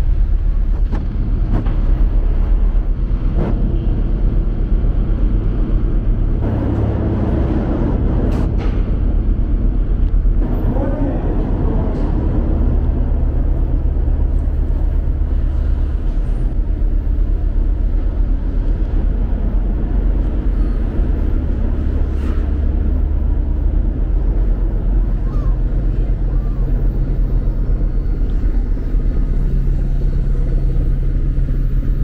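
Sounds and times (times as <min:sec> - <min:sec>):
ship engines droning: 0:00.0 - 0:32.0.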